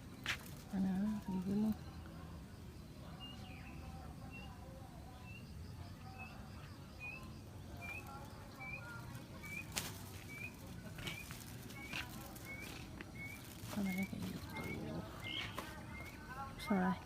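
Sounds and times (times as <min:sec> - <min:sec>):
bird chirping: 0:00.7 - 0:17.0.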